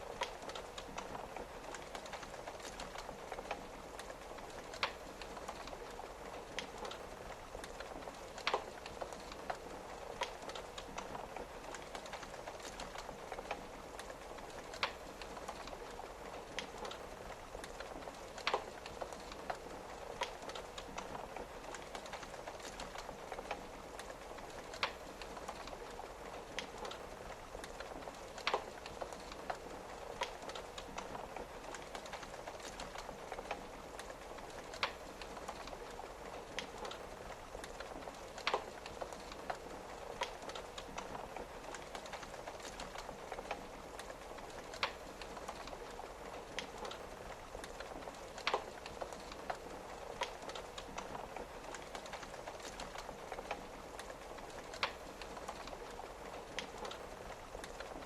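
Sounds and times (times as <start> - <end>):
rain tapping on window: 0.0 - 58.0
wood fire crackling: 0.0 - 58.0.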